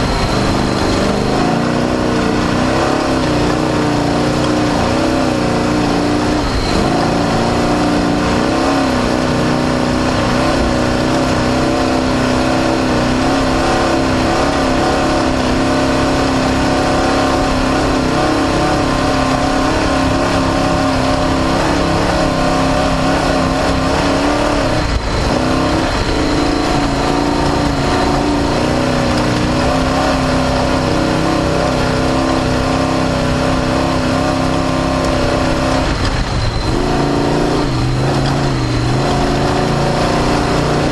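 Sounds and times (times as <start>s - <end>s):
race car engine revving hard: 0.0s - 40.9s
rush of noise: 0.0s - 40.9s.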